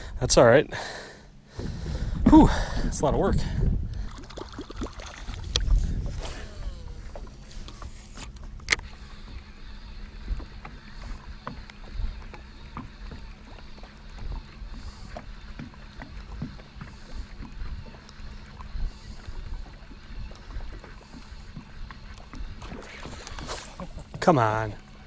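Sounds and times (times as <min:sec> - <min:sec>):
waves lapping against boat hull: 0:00.8 - 0:25.0.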